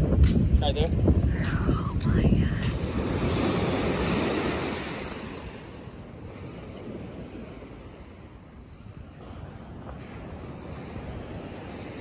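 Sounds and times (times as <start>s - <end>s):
wind buffeting microphone: 0.0s - 12.0s
small waves washing on shore: 1.0s - 12.0s.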